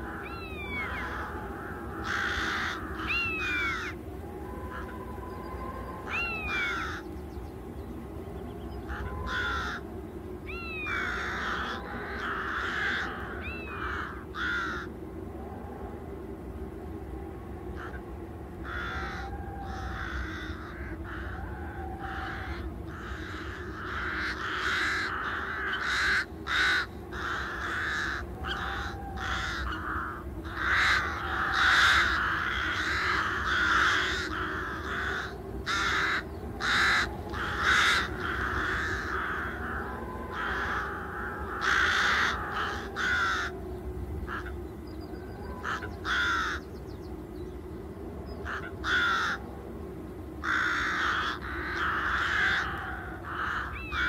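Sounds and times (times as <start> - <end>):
faint low hum: 0.0 - 54.0
wild birds calling: 0.0 - 54.0.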